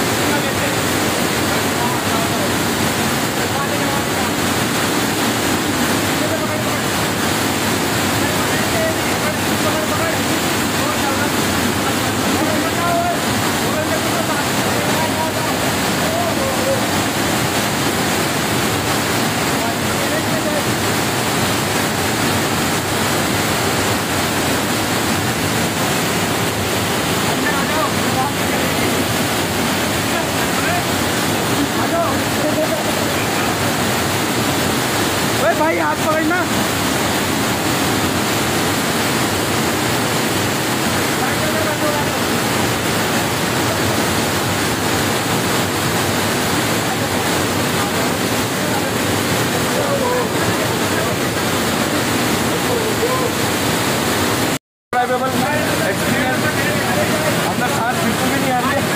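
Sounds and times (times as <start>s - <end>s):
waterfall rushing over rocks: 0.0s - 58.9s.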